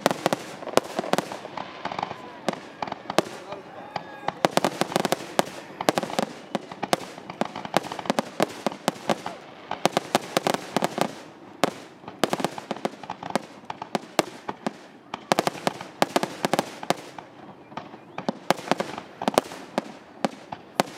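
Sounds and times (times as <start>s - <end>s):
fireworks bangs and crackles: 0.0s - 20.9s.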